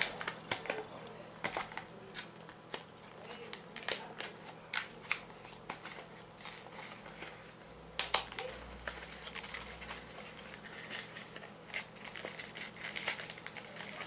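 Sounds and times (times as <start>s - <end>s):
hands handling small objects: 1.4s - 14.0s.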